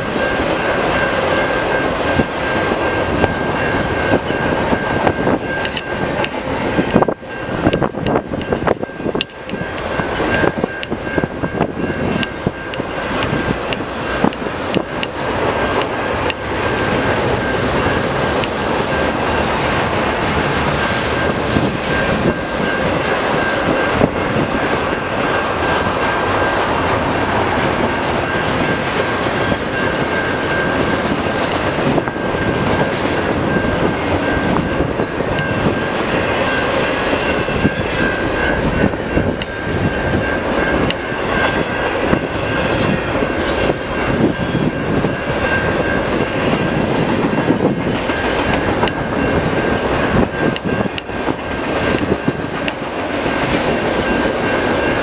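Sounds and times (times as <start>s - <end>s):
high ringing tone: 0.0s - 55.0s
train wheels rumbling on rails: 0.0s - 55.0s.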